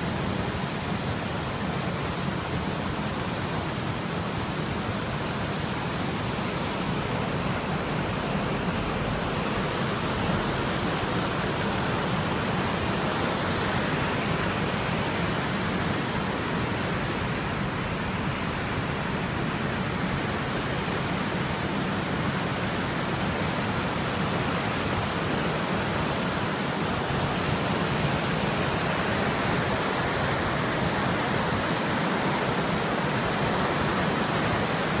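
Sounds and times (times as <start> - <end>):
rushing whitewater: 0.0 - 35.0.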